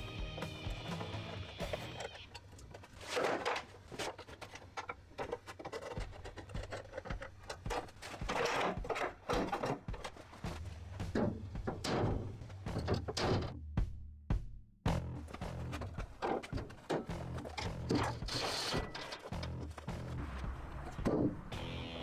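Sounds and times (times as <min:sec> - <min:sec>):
hand tools clicking and clanking: 0:00.0 - 0:13.6, 0:15.2 - 0:21.6.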